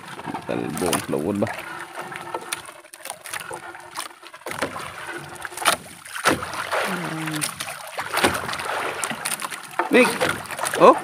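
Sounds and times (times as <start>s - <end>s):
water splashes: 0.0s - 11.0s.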